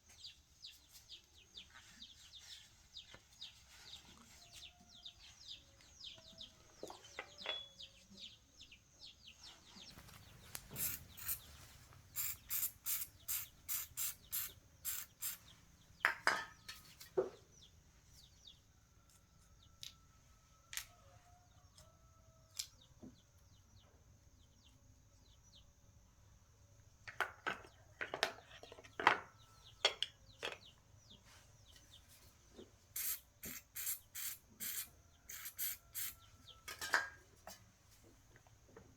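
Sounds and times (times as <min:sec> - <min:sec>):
small birds chirping: 0:00.0 - 0:36.7.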